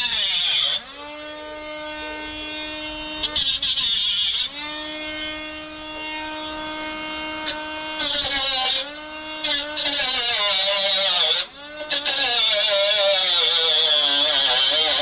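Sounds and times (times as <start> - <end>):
power cutting tool whining: 0.0 - 15.0
tool rasping through sheet metal: 0.0 - 15.0.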